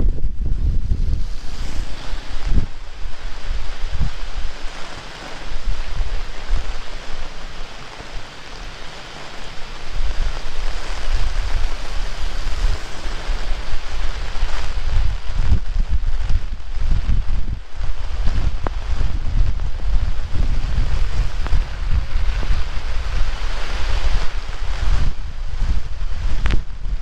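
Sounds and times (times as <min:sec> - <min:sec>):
heavy rain falling: 0:00.0 - 0:27.0
wind buffeting microphone: 0:00.0 - 0:27.0.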